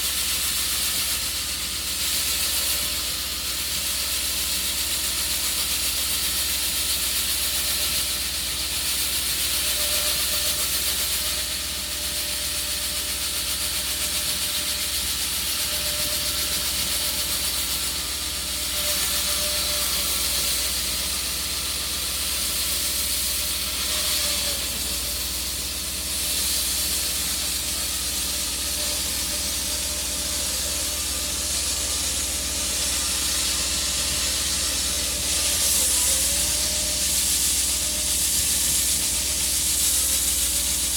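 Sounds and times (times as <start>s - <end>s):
concrete saw cutting: 0.0s - 40.9s.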